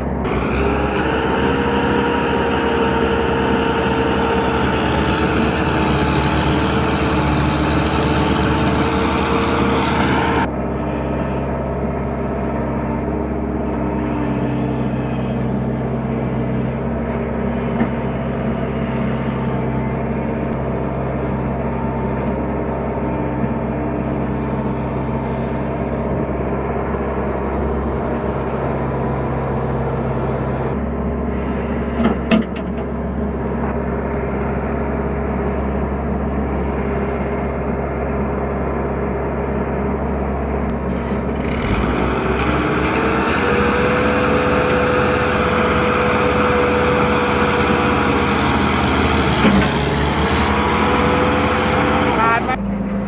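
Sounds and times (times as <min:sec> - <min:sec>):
tractor engine running hard: 0:00.0 - 0:53.0.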